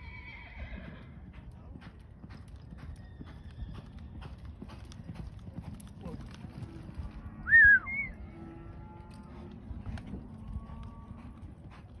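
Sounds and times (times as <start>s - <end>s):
horse hoofbeats on dirt: 0.0s - 7.4s, 8.5s - 12.0s.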